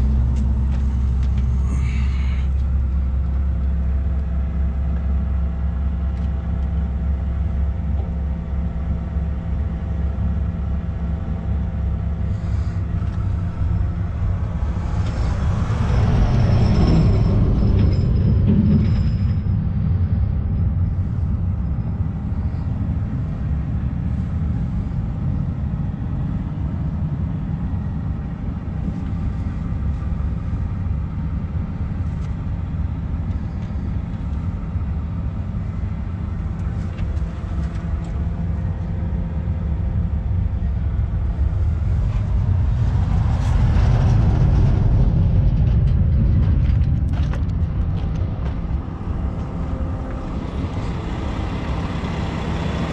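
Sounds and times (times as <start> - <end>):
truck diesel engine rumbling: 0.0 - 52.9.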